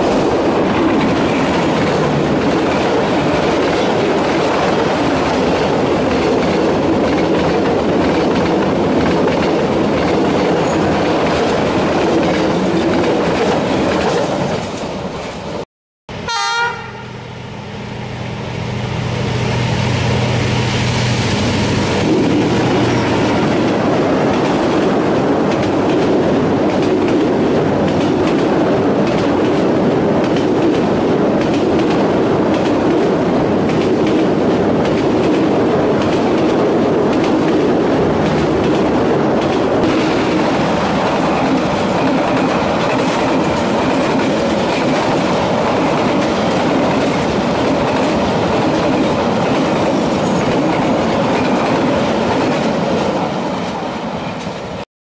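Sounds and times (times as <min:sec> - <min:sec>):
train coaches rolling past: 0:00.0 - 0:54.8.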